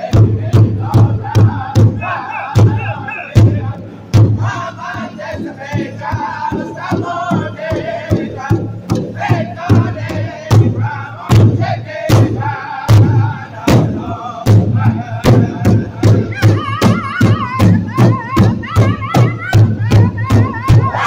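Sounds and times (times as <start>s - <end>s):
large drum beating: 0.0s - 21.0s
men singing high-pitched: 0.0s - 21.0s.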